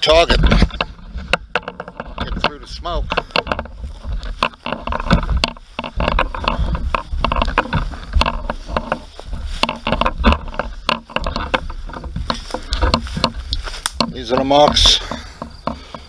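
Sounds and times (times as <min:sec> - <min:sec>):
wind on microphone: 0:00.0 - 0:15.8
footsteps: 0:00.0 - 0:16.0.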